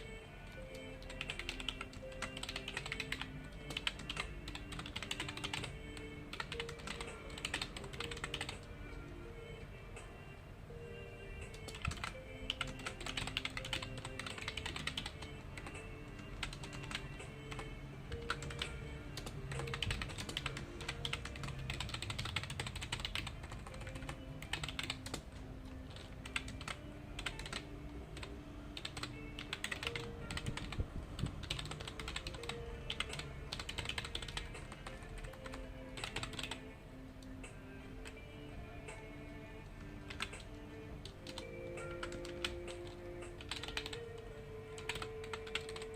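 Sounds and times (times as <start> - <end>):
computer keyboard typing: 0.0 - 9.1, 11.4 - 37.3, 39.2 - 45.9
soft background music: 0.0 - 45.9.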